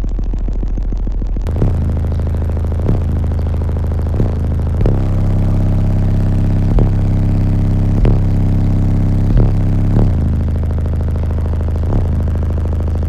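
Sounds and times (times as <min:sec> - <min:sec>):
deep subwoofer bass notes: 0:00.0 - 0:13.0.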